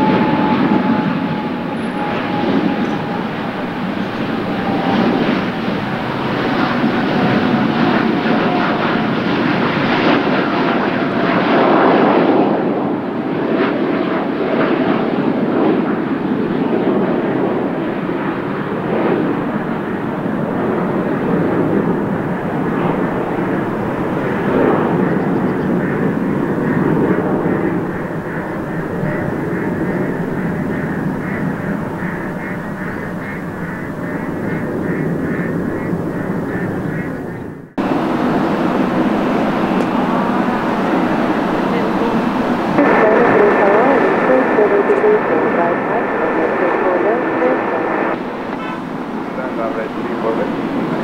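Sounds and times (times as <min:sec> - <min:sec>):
jet engine roar: 0:00.0 - 0:51.0
jet engine whine: 0:00.0 - 0:51.0.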